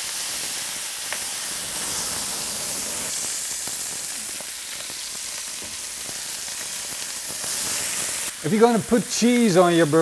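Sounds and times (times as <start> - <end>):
patties sizzling in a pan: 0.0 - 10.0.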